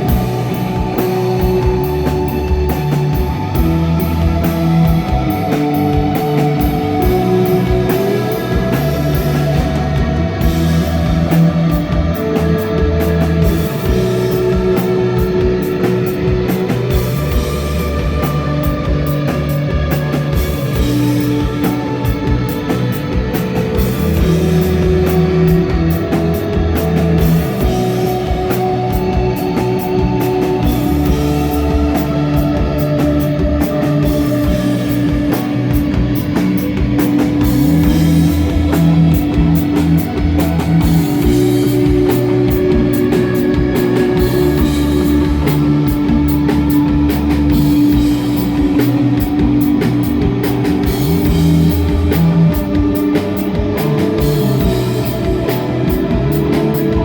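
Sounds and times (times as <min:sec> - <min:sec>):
bass guitar: 0:00.0 - 0:57.0
drum kit: 0:00.0 - 0:57.0
electric guitar sustained notes: 0:00.0 - 0:57.0.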